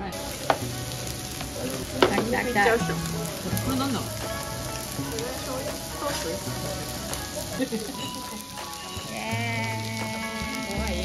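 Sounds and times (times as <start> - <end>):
steaks sizzling on iron platters: 0.0 - 11.0.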